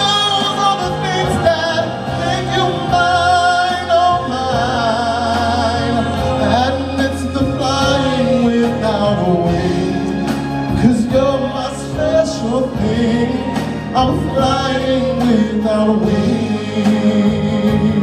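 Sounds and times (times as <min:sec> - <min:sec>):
backing track through speakers: 0:00.0 - 0:18.0
man singing into microphone: 0:00.0 - 0:18.0.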